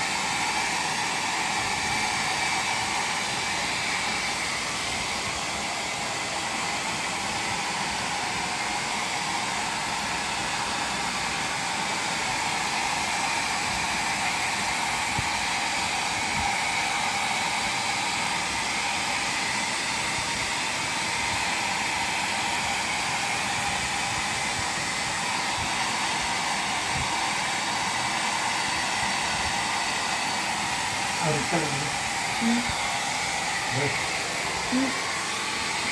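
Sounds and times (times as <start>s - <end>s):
hair dryer running: 0.0s - 35.9s.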